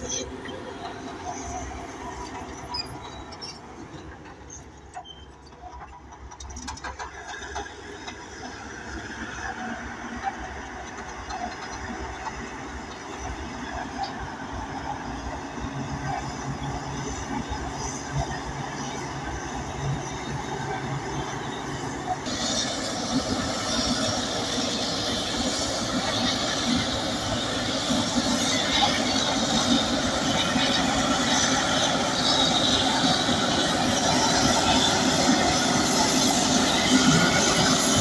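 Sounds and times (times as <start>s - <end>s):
steel tracks squealing and clanking: 0.0s - 38.0s.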